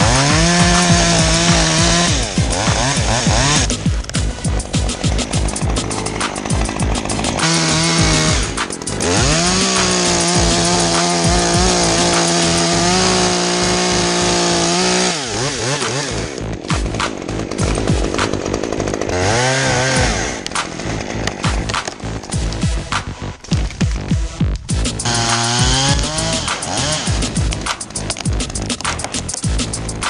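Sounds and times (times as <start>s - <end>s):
two-stroke chainsaw idling and revving: 0.0s - 30.0s.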